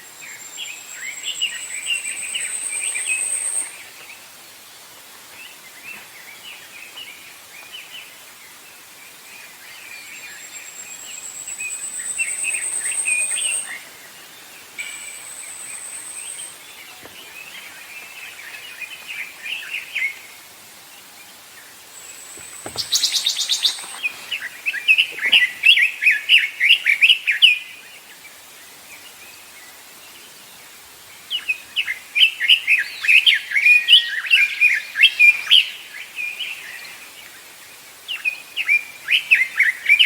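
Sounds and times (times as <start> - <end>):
wild birds chirping: 0.0 - 40.0.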